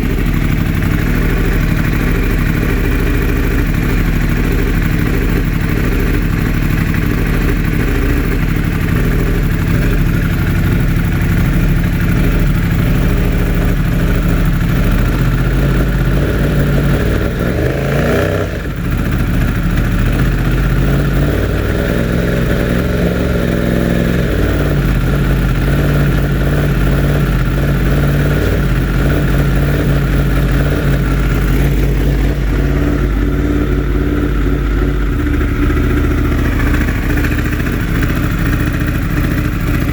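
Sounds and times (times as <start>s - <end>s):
motorcycle engine misfiring: 0.0s - 39.9s.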